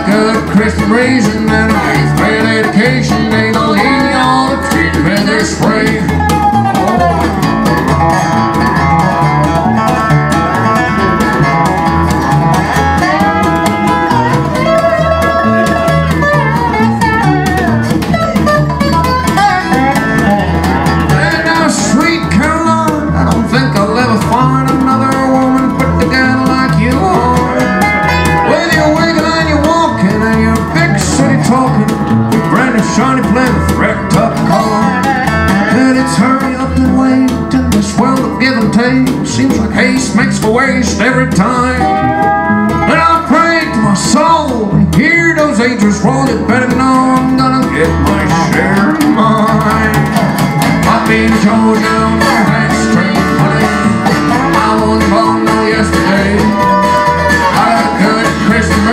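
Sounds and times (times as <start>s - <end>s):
plucked upright double bass: 0.0s - 58.9s
slide resonator guitar: 0.0s - 58.9s.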